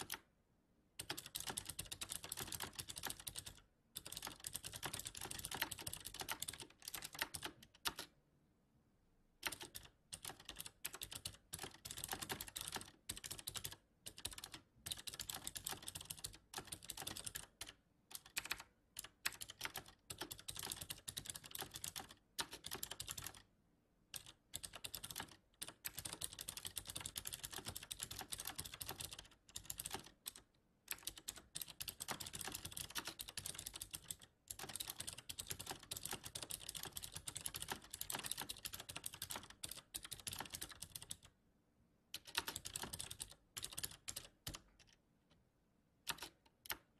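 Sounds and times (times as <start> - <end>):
typing on keyboard: 0.0 - 0.3, 1.0 - 8.2, 9.4 - 23.5, 24.1 - 41.3, 42.1 - 45.0, 46.0 - 46.9.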